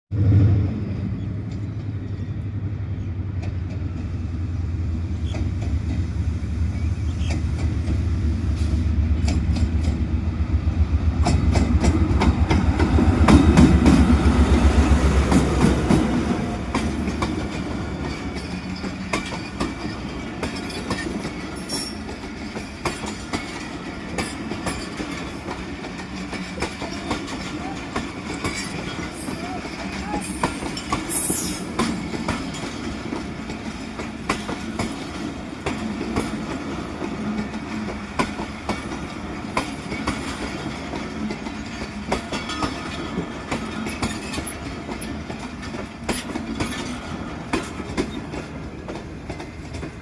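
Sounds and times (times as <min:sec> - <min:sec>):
train wheels clickety-clack: 0:03.0 - 0:04.4, 0:05.0 - 0:50.0.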